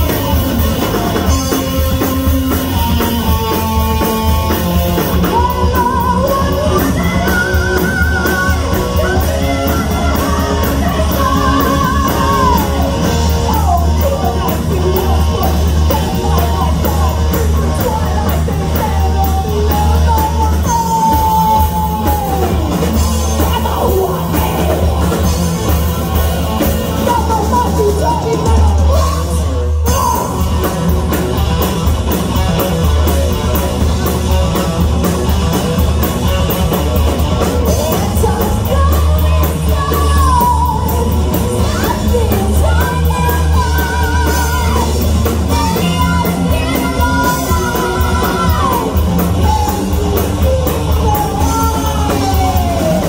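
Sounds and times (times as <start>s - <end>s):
high wavering lead vocal: 0.0s - 31.2s, 33.3s - 53.0s
distorted electric guitars: 0.0s - 53.0s
drum kit: 0.0s - 53.0s.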